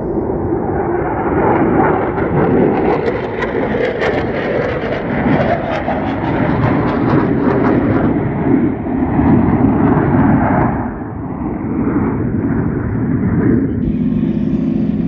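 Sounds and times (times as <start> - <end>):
jet aircraft roar passing: 0.0 - 15.0.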